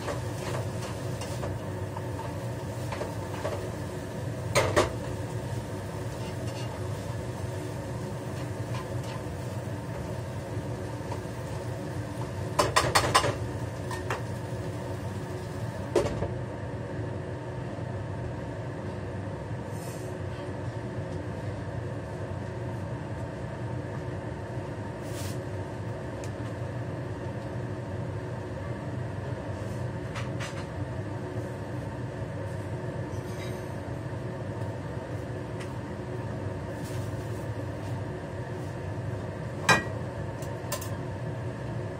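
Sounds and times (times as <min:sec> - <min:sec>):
range hood fan humming: 0:00.0 - 0:41.9.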